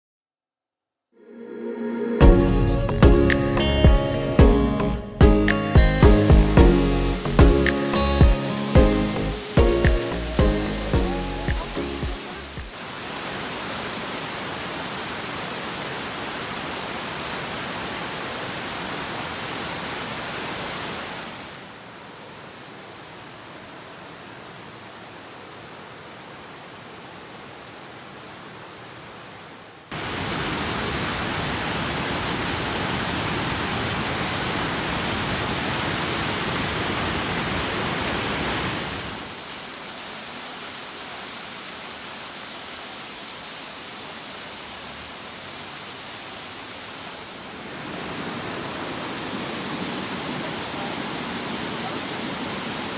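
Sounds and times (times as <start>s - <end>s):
waterfall rushing: 6.0s - 52.9s.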